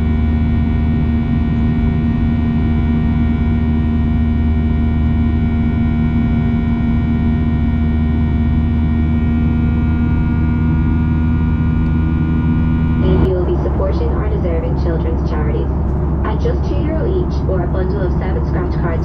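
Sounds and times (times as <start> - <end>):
airplane cabin engine hum: 0.0 - 19.0
low drone: 0.0 - 19.0.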